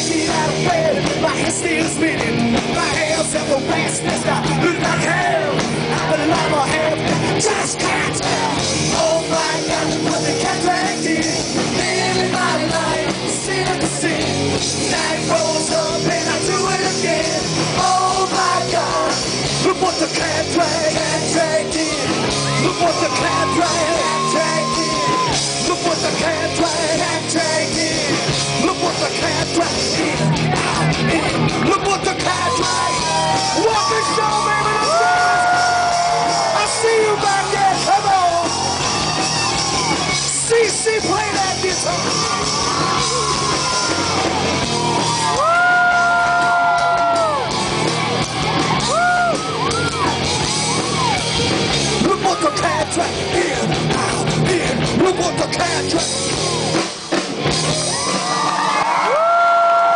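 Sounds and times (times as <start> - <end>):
distorted electric guitars: 0.0 - 59.9
drums: 0.0 - 59.9.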